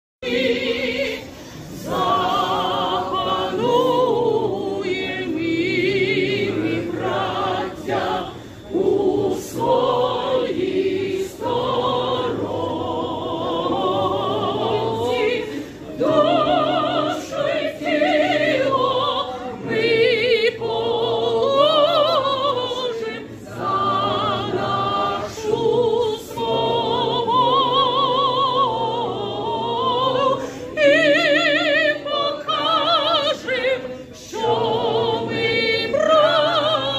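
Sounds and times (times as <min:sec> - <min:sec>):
crowd singing together: 0:00.2 - 0:36.9
strong voice singing with vibrato: 0:00.2 - 0:36.9.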